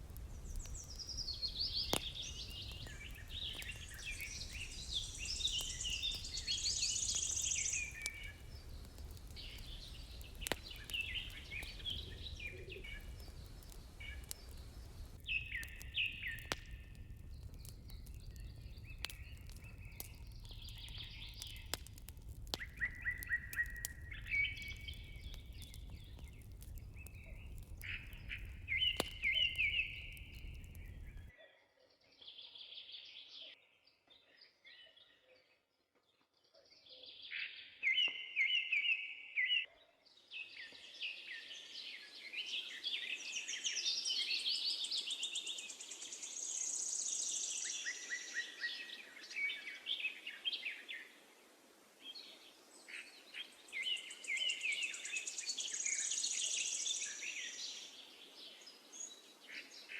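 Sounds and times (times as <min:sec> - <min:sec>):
fire crackling: 0:00.0 - 0:31.3, 0:42.2 - 0:59.4
songbirds singing and chirping: 0:00.0 - 0:31.4, 0:32.0 - 0:59.9.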